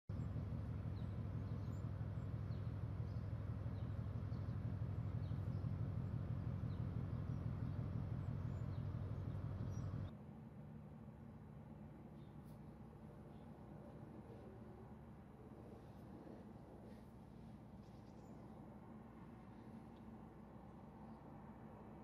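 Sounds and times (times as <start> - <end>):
low outdoor rumble: 0.1 - 22.0.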